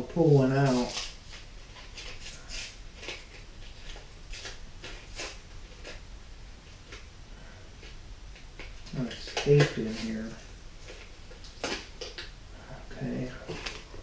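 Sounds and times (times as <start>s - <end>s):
plastic packaging crinkling: 0.2s - 6.0s, 7.8s - 14.0s.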